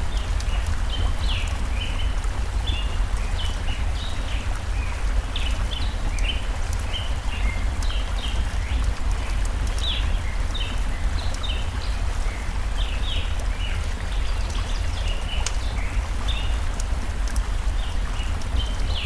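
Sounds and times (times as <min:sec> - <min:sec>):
campfire crackling: 0:00.0 - 0:19.0
forest stream rushing: 0:00.0 - 0:19.0
small birds chirping: 0:00.1 - 0:19.0.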